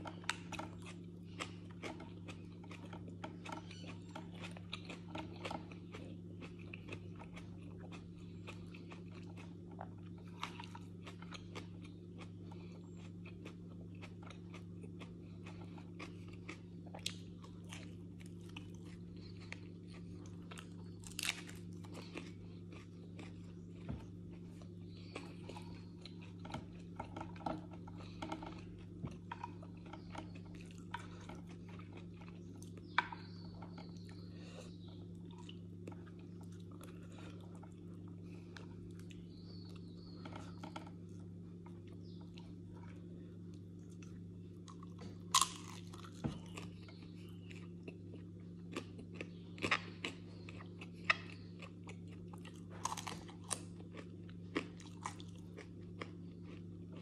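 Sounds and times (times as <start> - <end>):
person chewing crunchy bread: 0.0 - 57.0
steady low hum: 0.0 - 57.0.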